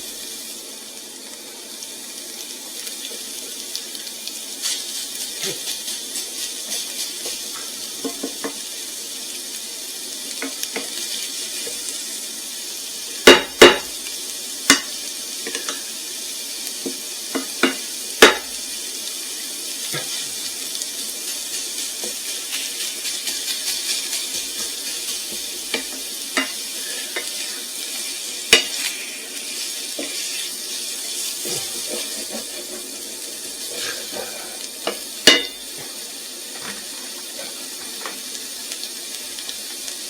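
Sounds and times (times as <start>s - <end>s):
sausage sizzling in a pan: 0.0s - 40.0s.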